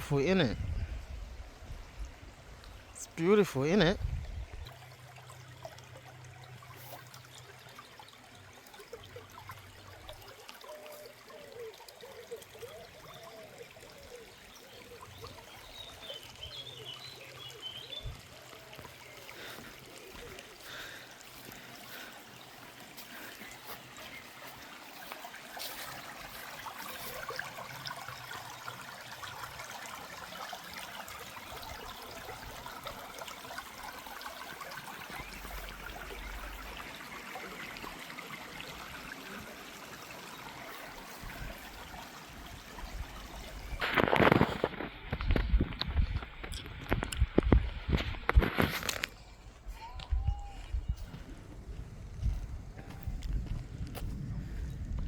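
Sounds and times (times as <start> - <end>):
stream trickling and gurgling: 0.0 - 55.0.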